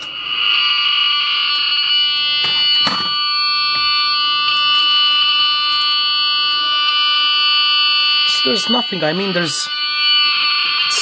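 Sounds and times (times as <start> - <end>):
shrill alarm buzz: 0.0 - 11.0.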